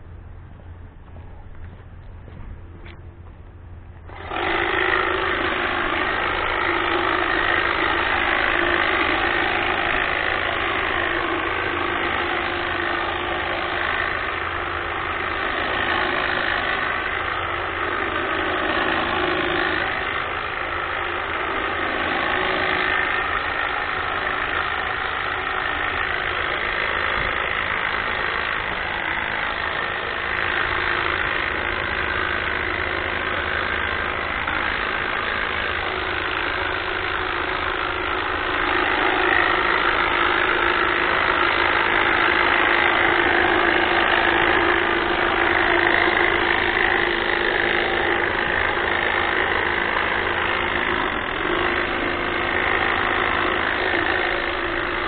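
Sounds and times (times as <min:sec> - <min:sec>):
hedge trimmer buzzing: 0:04.0 - 0:55.0.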